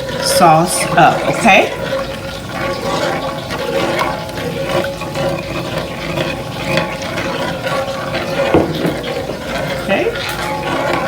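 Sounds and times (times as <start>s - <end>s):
sauce bubbling in a pan: 0.0s - 11.0s
spoon scraping and clicking in pan: 0.0s - 11.0s.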